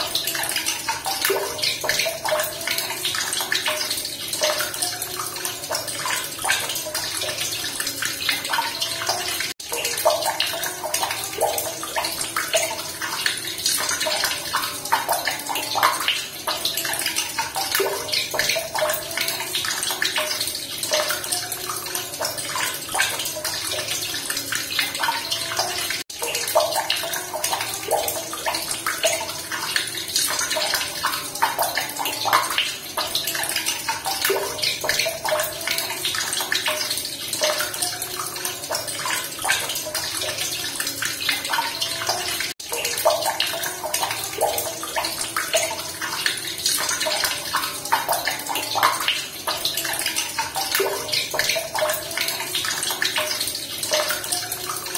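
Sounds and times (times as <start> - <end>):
running water splashing: 0.0 - 54.9.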